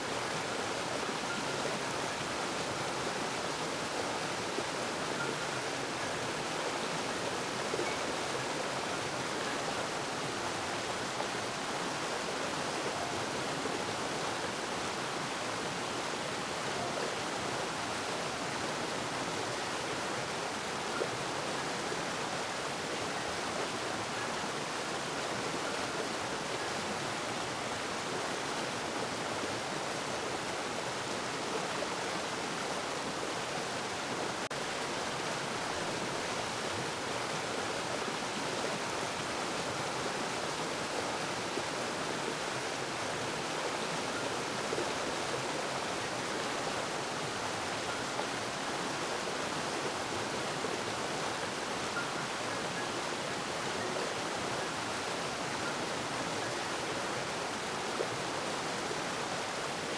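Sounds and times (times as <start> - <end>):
water rushing in a stream: 0.0 - 59.9.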